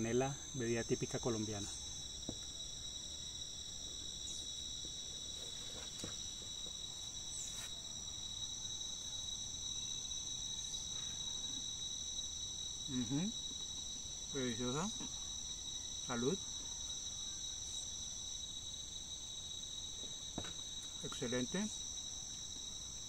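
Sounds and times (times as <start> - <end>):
insects chirping shrilly: 0.0 - 23.0.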